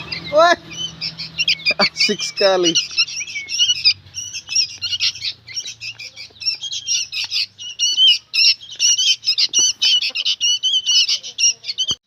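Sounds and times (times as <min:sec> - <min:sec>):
bulbuls chattering calls: 0:00.0 - 0:12.0.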